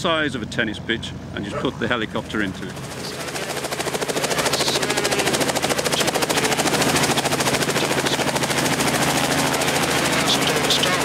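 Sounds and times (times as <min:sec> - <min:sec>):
helicopter engine drone: 0:00.0 - 0:11.0
helicopter rotor chop: 0:00.0 - 0:11.0.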